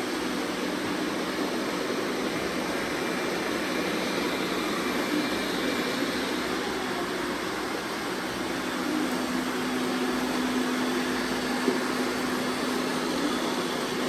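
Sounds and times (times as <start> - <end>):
robot vacuum whirring: 0.1 - 14.0.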